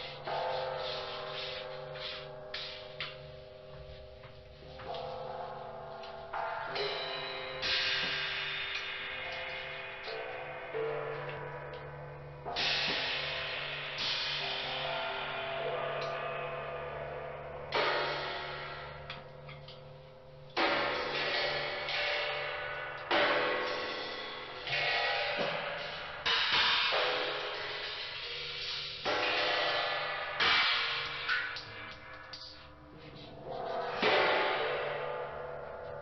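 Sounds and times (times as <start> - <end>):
metallic cymbal crashes: 0.0 - 36.0.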